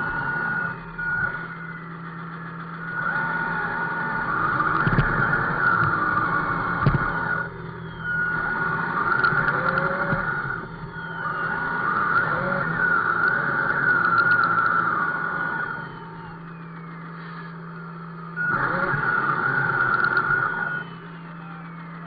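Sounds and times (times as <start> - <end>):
toy truck motor whine: 0.0 - 22.0.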